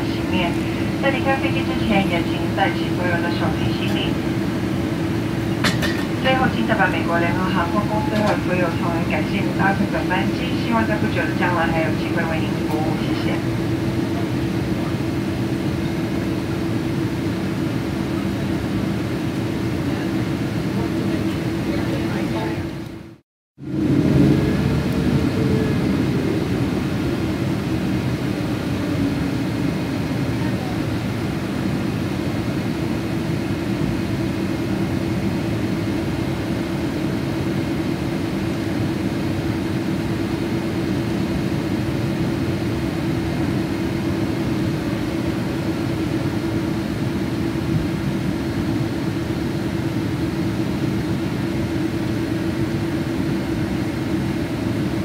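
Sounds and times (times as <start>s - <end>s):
aircraft cabin droning hum: 0.0s - 55.0s.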